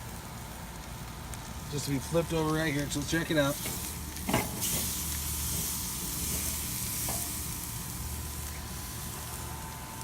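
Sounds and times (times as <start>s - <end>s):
sizzling hiss from smoker: 0.0s - 10.0s.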